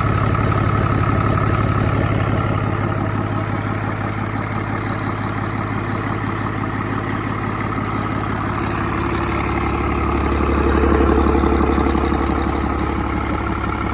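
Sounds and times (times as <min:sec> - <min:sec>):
diesel engine idling: 0:00.0 - 0:13.9.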